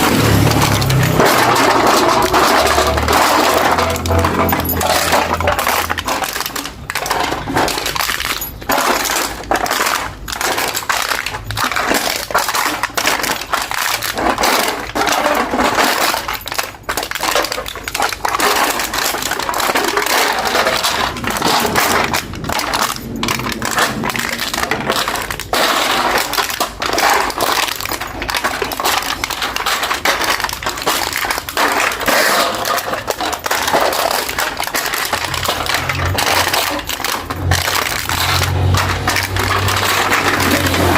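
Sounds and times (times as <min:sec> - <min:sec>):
can being crushed by hand: 0:00.0 - 0:40.9.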